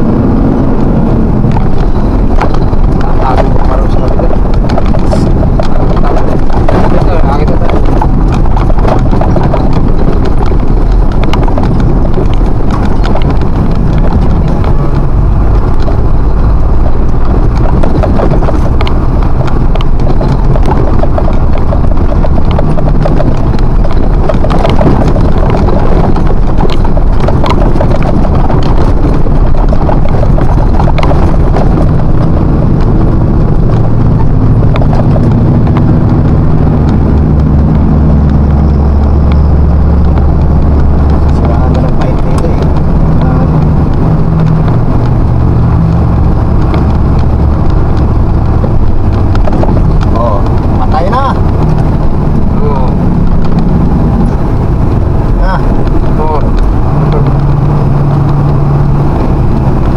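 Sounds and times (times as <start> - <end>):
cab rattling: 0.0 - 59.9
truck engine drone: 0.0 - 59.9.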